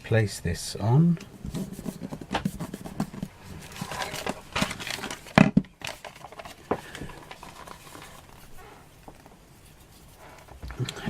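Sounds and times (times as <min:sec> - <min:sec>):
paper rustling: 0:01.3 - 0:10.7.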